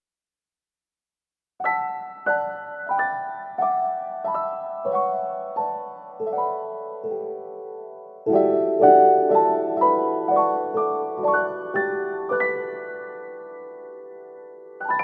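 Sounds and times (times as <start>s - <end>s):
slow piano melody: 1.6s - 15.0s.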